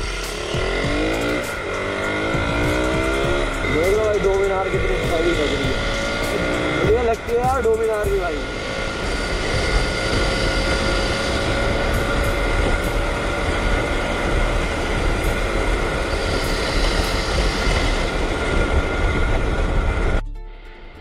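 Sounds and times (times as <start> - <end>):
high whine: 0.0 - 21.0
train rumble: 0.0 - 21.0.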